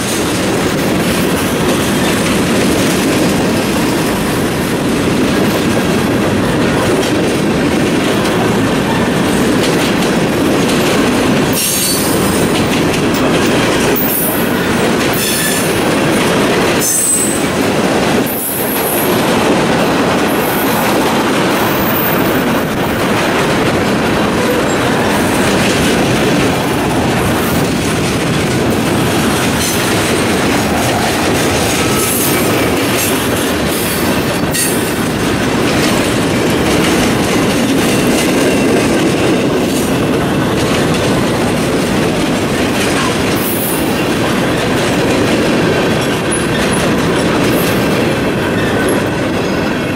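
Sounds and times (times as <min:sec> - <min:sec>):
steel wheels rumbling on rails: 0:00.0 - 0:49.9.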